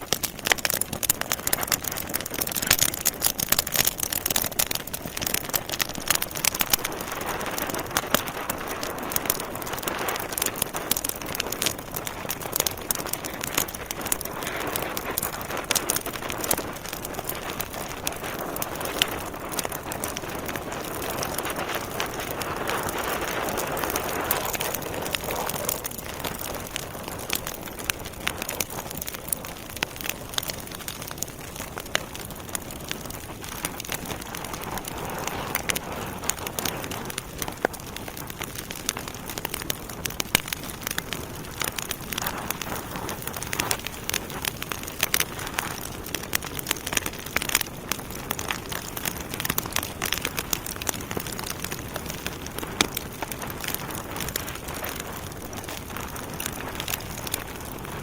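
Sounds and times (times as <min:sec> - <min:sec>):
burning logs crackling and popping: 0:00.0 - 0:58.0
fire hissing: 0:00.0 - 0:58.0.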